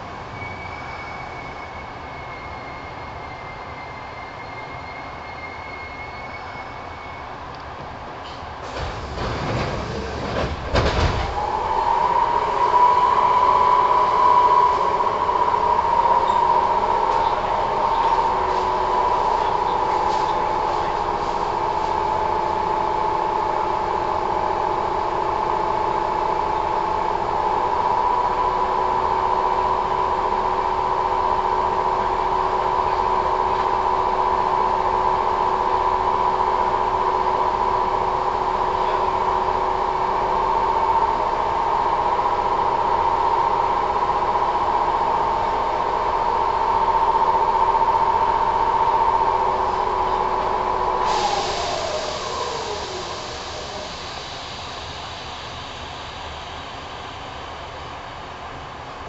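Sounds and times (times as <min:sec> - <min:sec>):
electric train equipment hum: 0:06.4 - 0:59.0.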